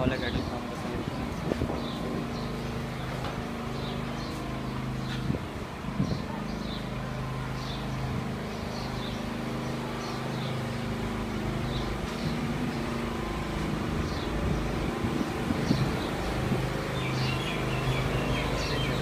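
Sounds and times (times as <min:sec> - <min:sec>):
engine hum: 0:00.0 - 0:19.0
small birds chirping: 0:00.0 - 0:19.0.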